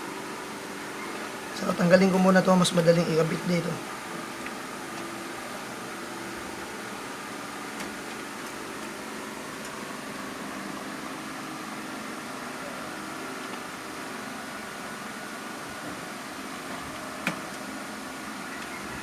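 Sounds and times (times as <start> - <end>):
fan-like room hum: 0.0 - 19.0.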